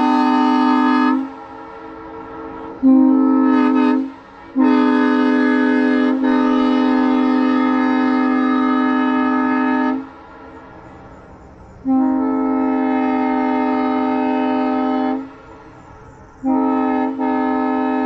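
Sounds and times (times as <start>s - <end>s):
locomotive air horn blasts: 0.0s - 11.1s, 11.8s - 15.8s, 16.4s - 18.0s.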